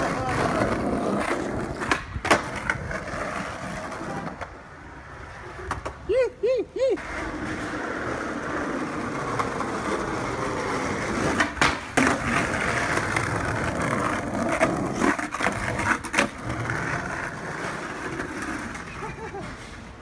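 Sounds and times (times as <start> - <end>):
skateboard clacks: 0.0 - 4.6, 5.2 - 6.1, 7.0 - 20.0
skateboard wheels rolling on asphalt: 0.0 - 6.4, 7.0 - 20.0.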